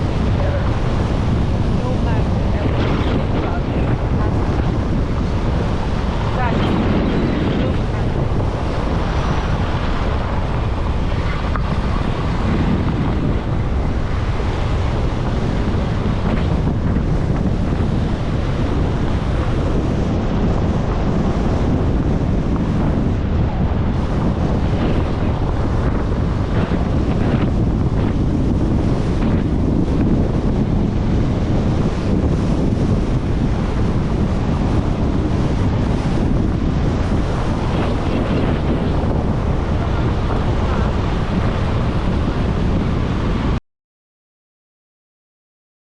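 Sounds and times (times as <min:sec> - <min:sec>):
wind buffeting microphone: 0:00.0 - 0:43.6.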